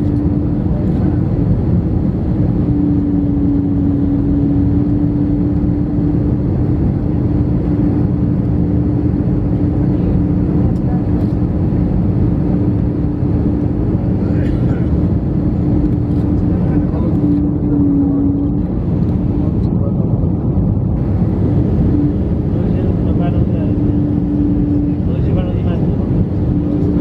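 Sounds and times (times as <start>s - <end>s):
jet engine and airflow drone: 0.0s - 27.0s
steady low hum: 0.0s - 27.0s.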